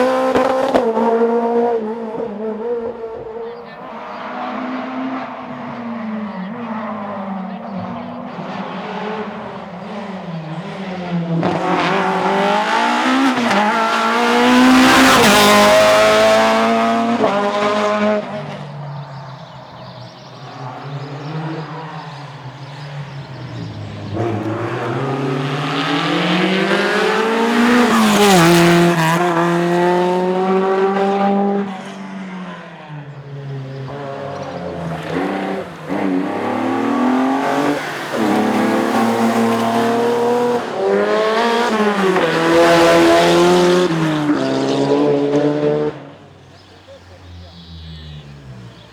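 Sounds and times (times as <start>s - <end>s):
rally car engine revving past: 0.0s - 46.4s.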